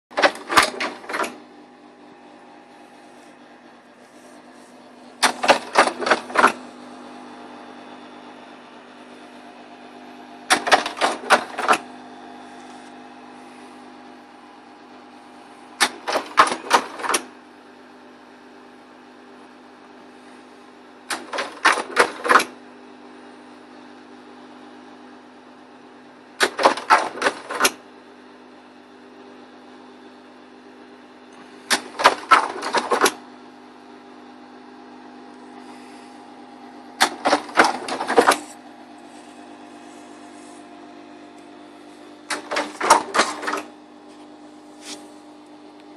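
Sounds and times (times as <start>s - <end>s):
projector humming: 0.1s - 45.9s.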